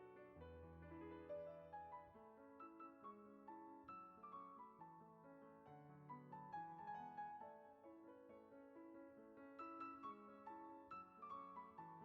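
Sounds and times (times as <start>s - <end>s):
quiet piano music: 0.0s - 12.0s.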